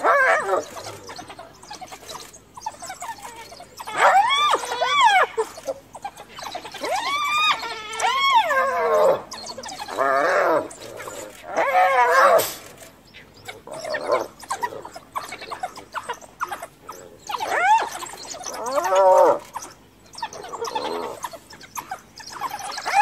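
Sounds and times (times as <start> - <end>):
hyena squealing and yelping: 0.0 - 23.0.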